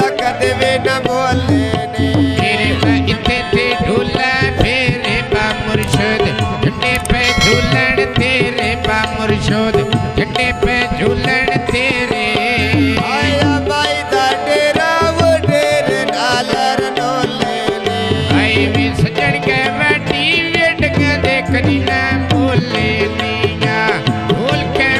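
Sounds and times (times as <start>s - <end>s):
men singing a folk song: 0.0s - 7.4s, 8.0s - 24.9s.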